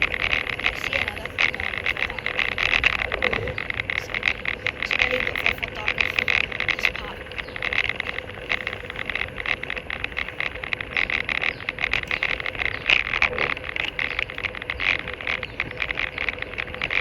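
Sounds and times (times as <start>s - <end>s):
bicycle clicking and rattling: 0.0s - 17.0s
tyres hissing on wet path: 0.0s - 17.0s.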